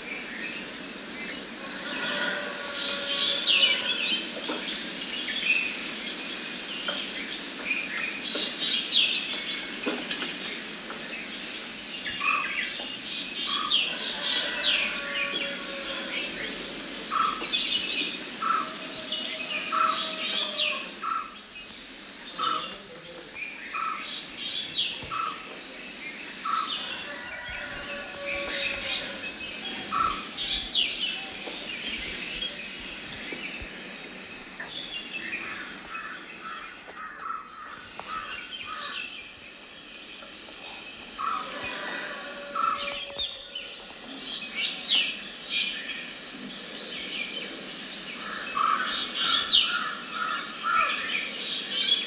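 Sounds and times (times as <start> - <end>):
birds chirping: 0.0 - 52.0
outdoor background noise: 0.0 - 52.0.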